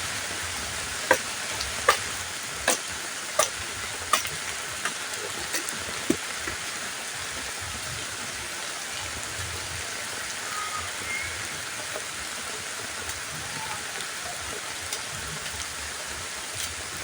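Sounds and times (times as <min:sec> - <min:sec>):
sharp drips: 0:00.0 - 0:17.0
steady rain hissing: 0:00.0 - 0:17.0.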